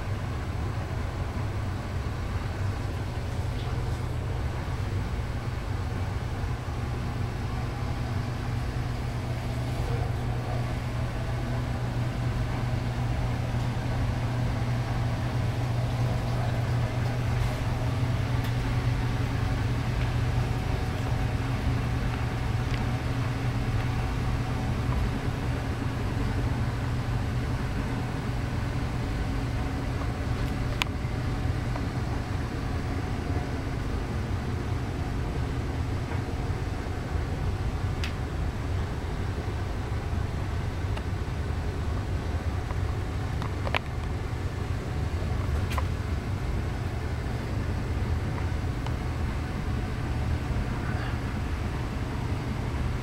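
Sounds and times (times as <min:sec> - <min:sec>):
low hum with rumble: 0:00.0 - 0:53.0.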